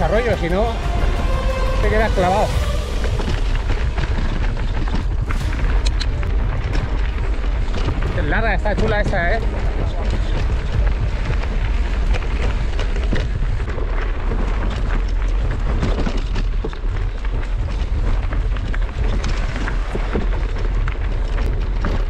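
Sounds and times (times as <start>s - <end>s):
tyres on stony dirt trail: 0.0s - 22.0s
wind buffeting microphone: 0.0s - 22.0s
bike clicks and rattles: 3.0s - 22.0s.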